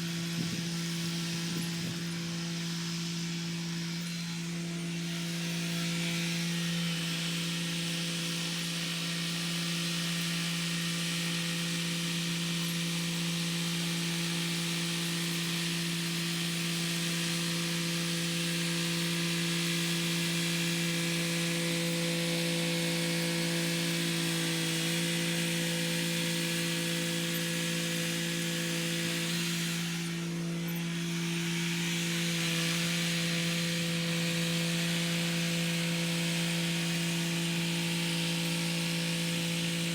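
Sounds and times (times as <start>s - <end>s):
rotary tiller churning soil: 0.0s - 39.9s.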